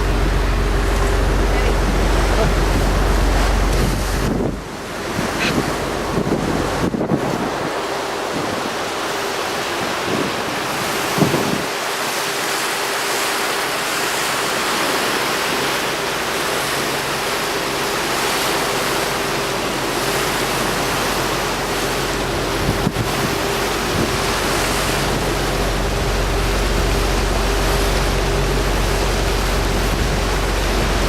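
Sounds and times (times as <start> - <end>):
boat engine drone: 0.0 - 31.0
wind and water rushing: 0.0 - 31.0.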